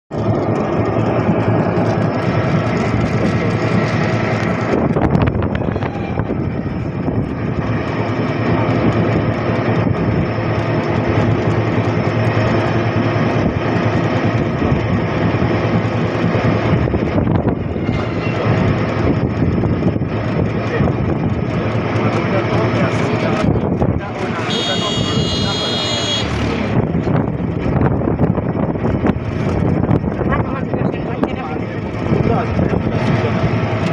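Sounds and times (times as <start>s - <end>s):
auto-rickshaw motor: 0.1s - 33.9s
road noise: 0.1s - 33.9s.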